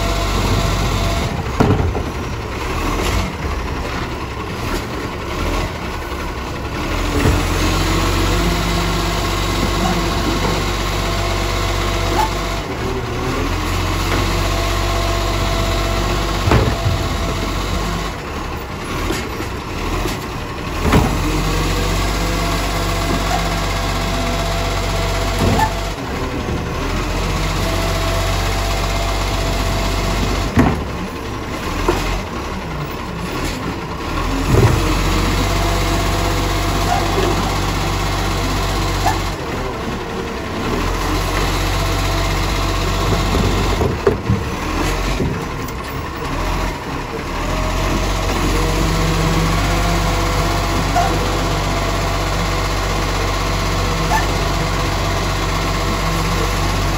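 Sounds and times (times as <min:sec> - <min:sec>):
garbage truck engine running: 0:00.0 - 0:56.9.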